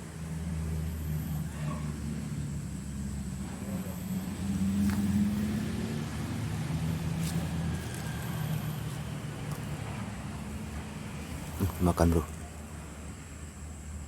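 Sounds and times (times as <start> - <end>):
motor traffic hum: 0.0 - 14.0.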